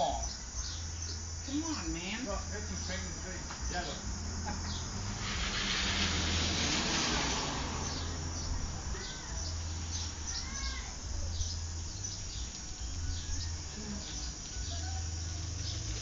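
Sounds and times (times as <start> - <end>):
birds chirping: 0.0 - 5.1, 7.7 - 16.0
steady low hum: 0.0 - 16.0
hissing rush: 1.4 - 16.0.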